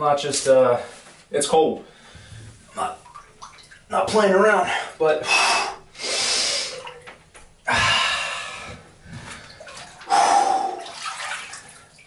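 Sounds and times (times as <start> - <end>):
water sloshing in bathtub: 2.0 - 12.0.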